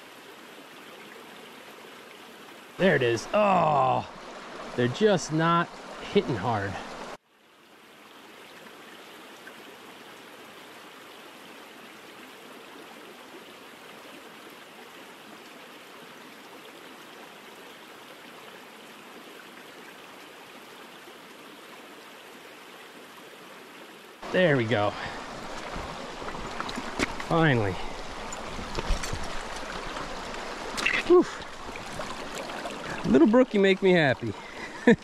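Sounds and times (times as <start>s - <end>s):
stream flowing: 0.0s - 35.0s.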